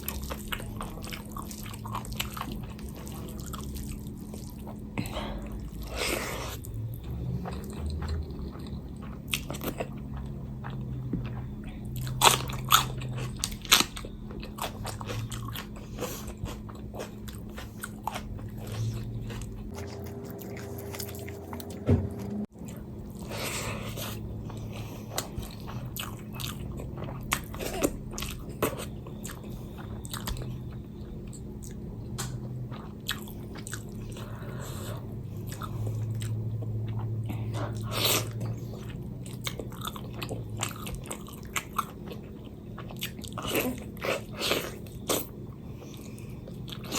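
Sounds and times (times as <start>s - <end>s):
low hum: 0.0s - 46.9s
person chewing and biting food: 0.0s - 46.9s.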